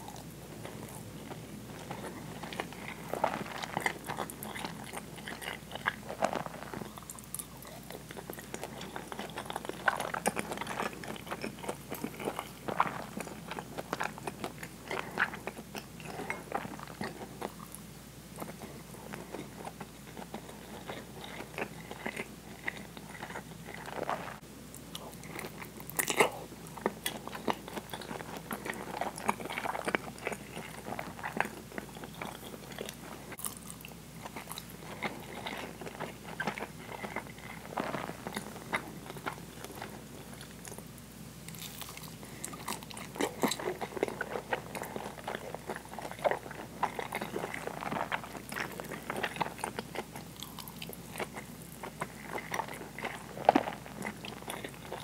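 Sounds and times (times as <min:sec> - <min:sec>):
close chewing and wet mouth sounds: 0:00.0 - 0:55.0.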